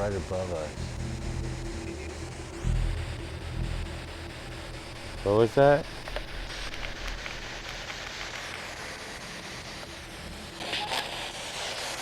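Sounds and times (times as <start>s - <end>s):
night-time outdoor hiss: 0.0s - 12.0s.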